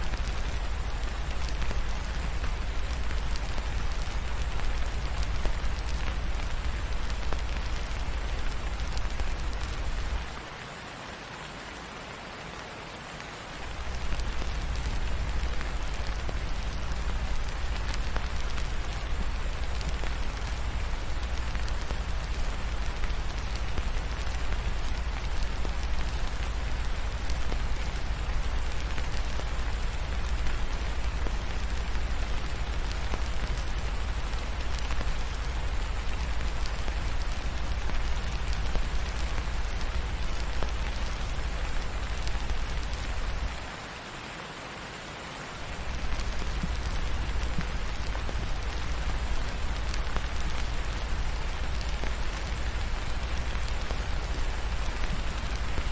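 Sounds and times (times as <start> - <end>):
rain falling: 0.0 - 55.9.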